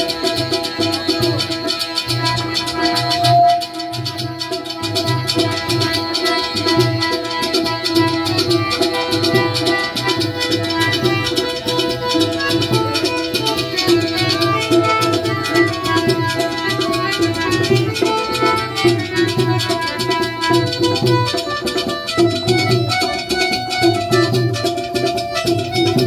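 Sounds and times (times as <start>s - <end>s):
fast hand-drum beat: 0.0s - 26.0s
held melodic instrument notes: 0.0s - 26.0s.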